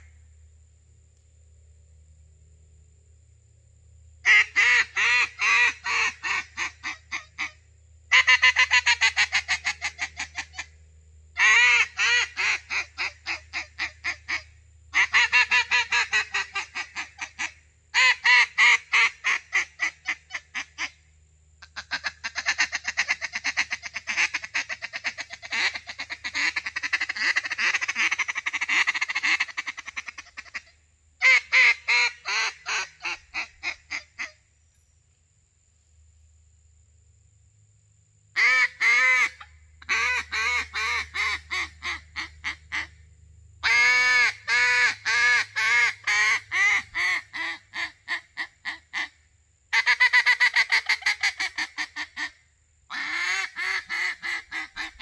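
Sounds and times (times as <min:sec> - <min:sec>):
duck call quacks: 0:04.2 - 0:10.7, 0:11.4 - 0:21.0, 0:21.6 - 0:34.4, 0:38.4 - 0:43.0, 0:43.6 - 0:55.0.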